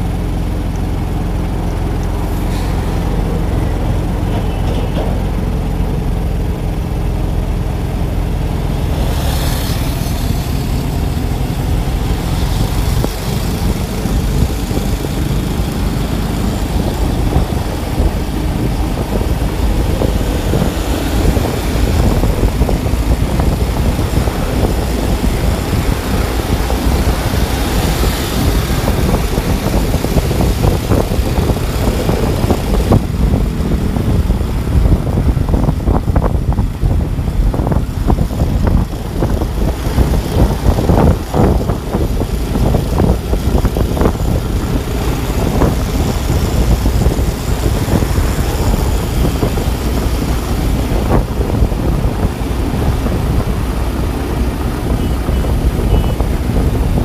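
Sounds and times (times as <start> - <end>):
engine and road noise: 0.0 - 57.0
motorbikes running: 0.0 - 57.0
wind rumble on microphone: 0.0 - 57.0.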